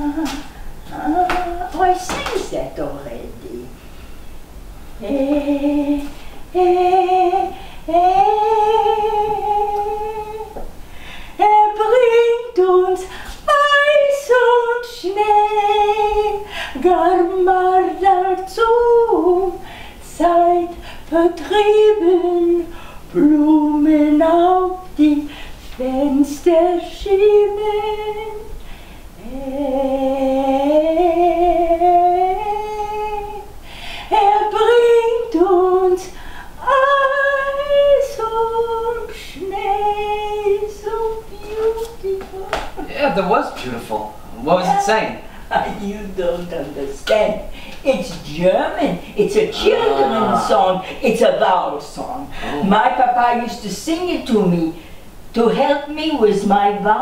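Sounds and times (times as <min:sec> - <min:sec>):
elderly woman singing unaccompanied: 0:00.0 - 0:03.7, 0:05.0 - 0:10.6, 0:11.4 - 0:28.5, 0:29.2 - 0:42.8, 0:44.5 - 0:54.6.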